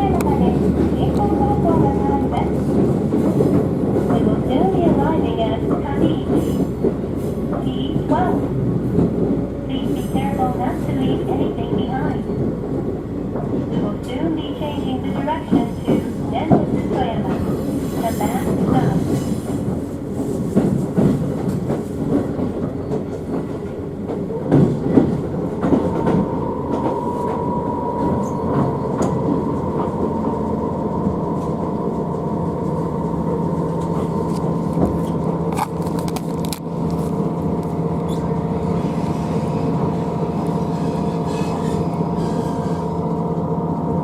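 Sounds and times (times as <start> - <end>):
electric train rumble and hum: 0.0 - 44.0.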